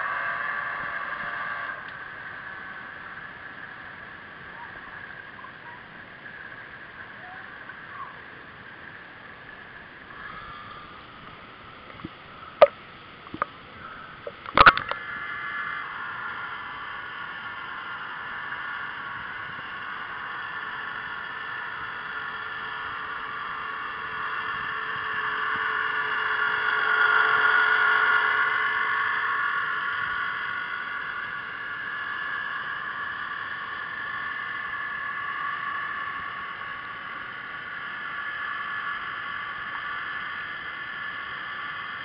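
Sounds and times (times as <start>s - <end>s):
model submarine motor whine: 0.0s - 42.0s.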